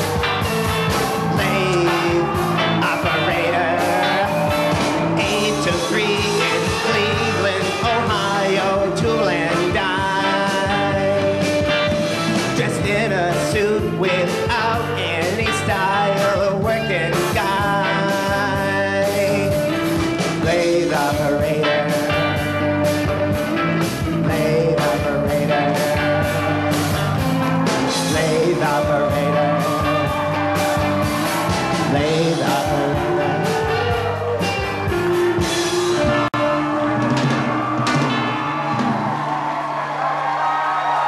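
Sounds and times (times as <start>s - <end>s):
band music: 0.0s - 41.0s
steady drum beat: 0.0s - 41.0s.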